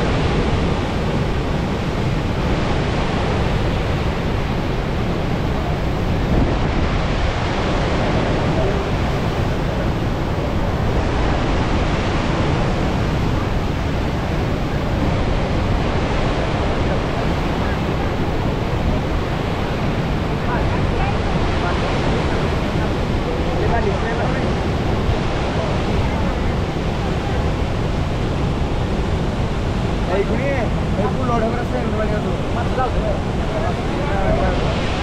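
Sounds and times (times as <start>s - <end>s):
floodwater rushing through spillway: 0.0s - 35.0s.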